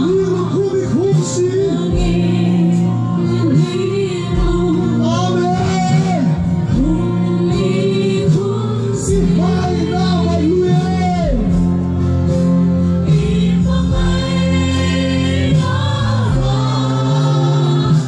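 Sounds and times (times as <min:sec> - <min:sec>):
woman singing gospel: 0:00.0 - 0:11.4, 0:12.9 - 0:18.0
band with guitars and keyboard: 0:00.0 - 0:18.0.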